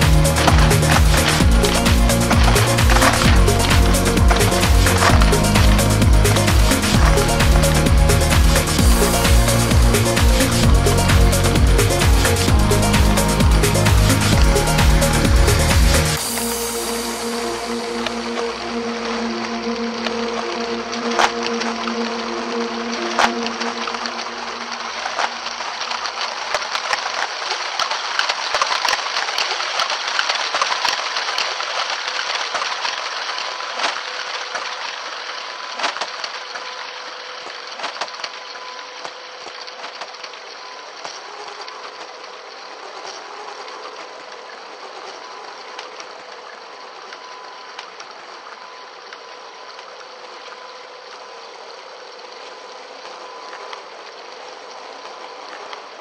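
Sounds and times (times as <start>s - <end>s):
electric motor and gears whining: 0.0s - 56.0s.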